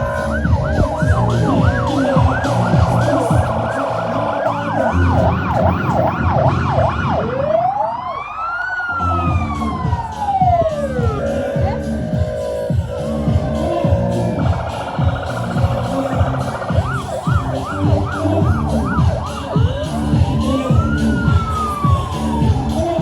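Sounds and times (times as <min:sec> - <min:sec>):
background music with a beat: 0:00.0 - 0:23.0
siren-like wailing: 0:00.0 - 0:23.0.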